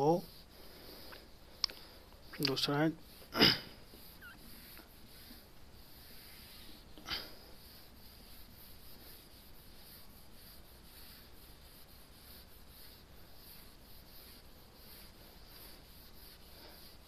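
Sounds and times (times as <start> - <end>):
duster rubbing whiteboard: 0.0 - 1.4, 2.2 - 17.0.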